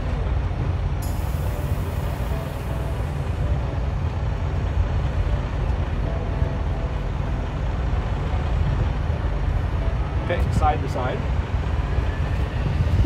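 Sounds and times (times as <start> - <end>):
diesel truck engines idling: 0.0 - 13.0.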